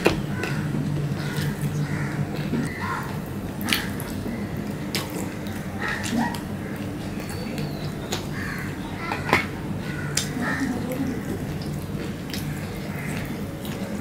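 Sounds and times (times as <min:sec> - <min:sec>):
wet chewing and lip smacks: 0:00.0 - 0:09.5, 0:10.1 - 0:14.0
fingers squishing food: 0:00.0 - 0:14.0.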